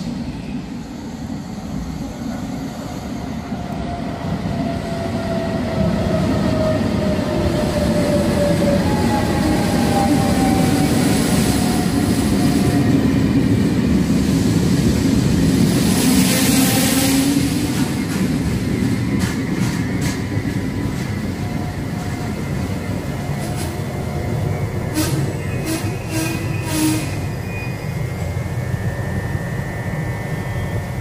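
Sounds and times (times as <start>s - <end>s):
electric train rumbling: 0.0s - 31.0s.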